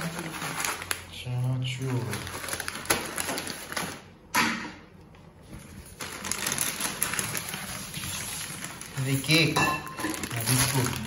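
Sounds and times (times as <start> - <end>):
plastic bags rustling: 0.0 - 4.3, 5.2 - 11.0.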